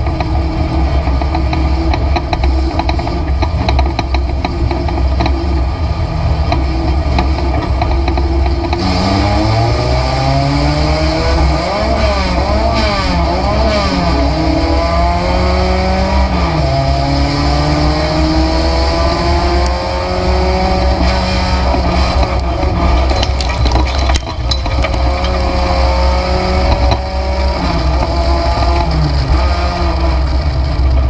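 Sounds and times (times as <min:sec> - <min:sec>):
low drone and road noise: 0:00.0 - 0:31.0
race car engine revving: 0:04.3 - 0:23.1, 0:24.8 - 0:31.0.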